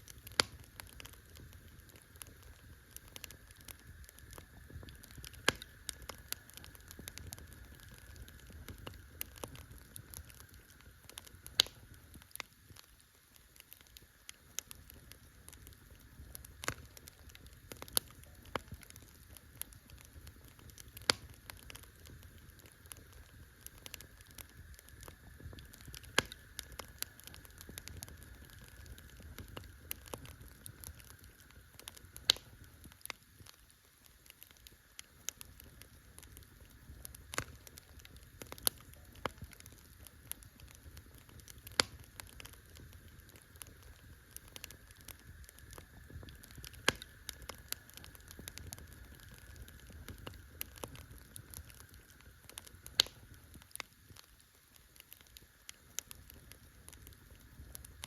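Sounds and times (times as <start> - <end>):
sharp fire pops: 0.0 - 13.0, 14.6 - 54.4, 55.0 - 58.0
campfire crackling: 0.0 - 58.0.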